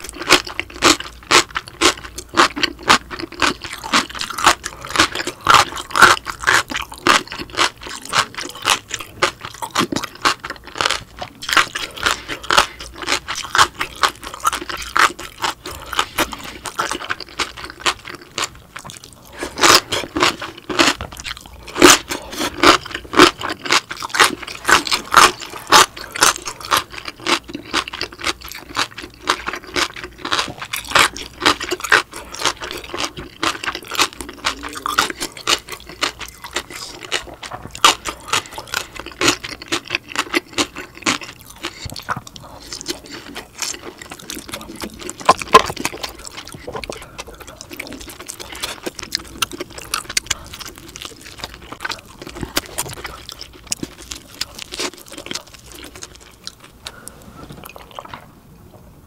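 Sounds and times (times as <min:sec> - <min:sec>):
crunching and chewing: 0:00.0 - 0:58.3.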